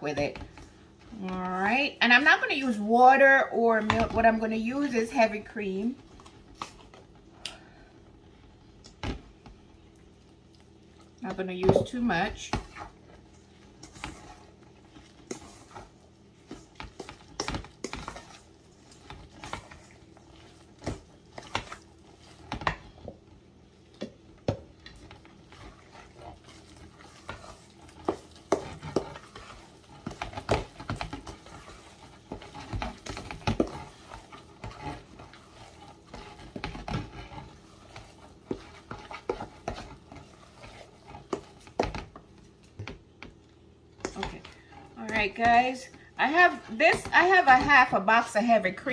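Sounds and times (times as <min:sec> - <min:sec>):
utensil stirring batter in bowl: 0:00.0 - 0:48.9.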